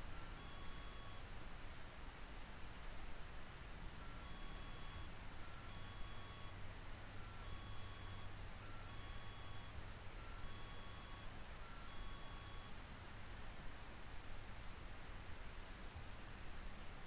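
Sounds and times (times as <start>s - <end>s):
faint hiss and hum: 0.0s - 17.0s.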